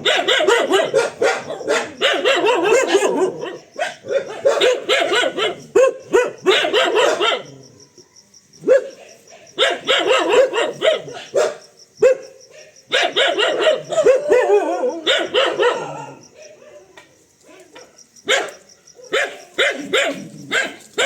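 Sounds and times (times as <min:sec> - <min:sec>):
dog barking: 0:00.0 - 0:07.6, 0:08.6 - 0:21.0.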